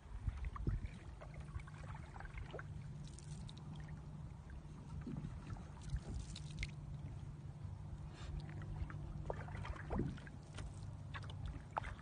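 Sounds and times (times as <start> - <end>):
wooden paddle in water: 0.0 - 7.4, 8.0 - 12.0
low steady rumble: 0.0 - 12.0
water splashes and drips: 0.1 - 7.4, 8.2 - 12.0.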